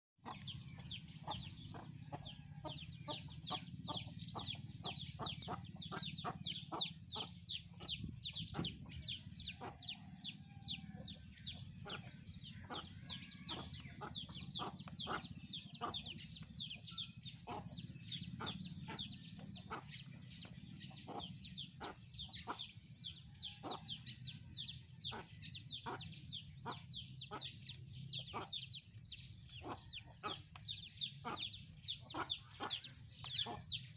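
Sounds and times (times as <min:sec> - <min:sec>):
small birds chirping: 0:00.2 - 0:33.9.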